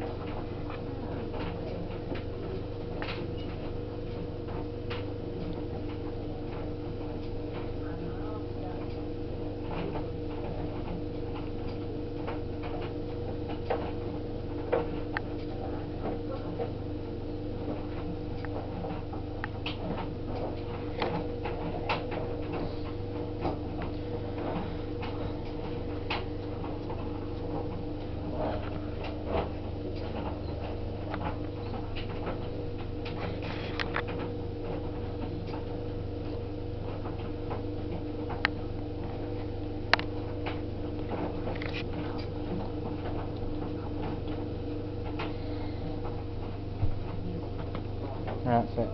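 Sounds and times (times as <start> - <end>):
tumble dryer motor hum: 0.0 - 48.9.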